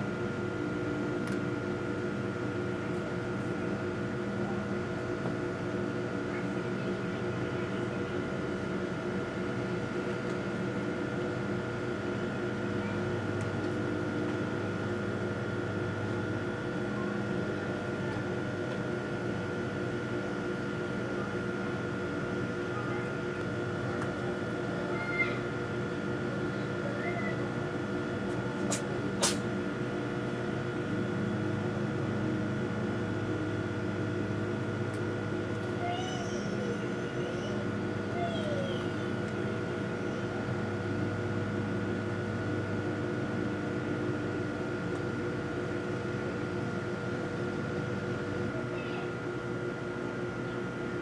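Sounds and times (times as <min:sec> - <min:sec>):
steady mechanical hum: 0:00.0 - 0:51.0.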